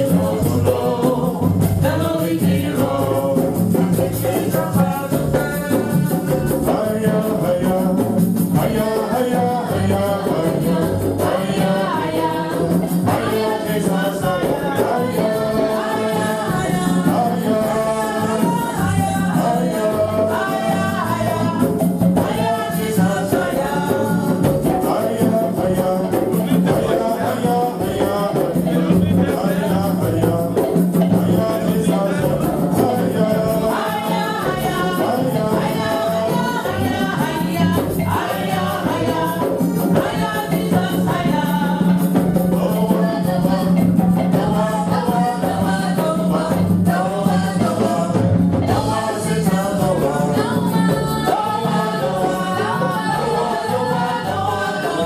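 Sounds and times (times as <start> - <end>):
bass: 0.0 - 55.0
group singing: 0.0 - 55.0
percussion: 0.0 - 55.0.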